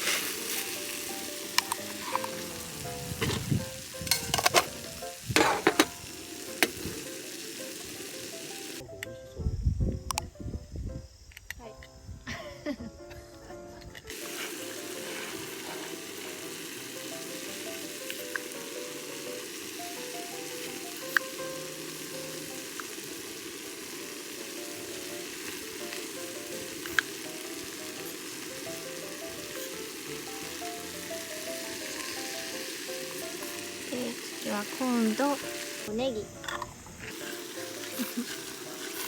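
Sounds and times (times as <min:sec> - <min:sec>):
rice sizzling in a pan: 0:00.0 - 0:08.9, 0:14.0 - 0:39.0.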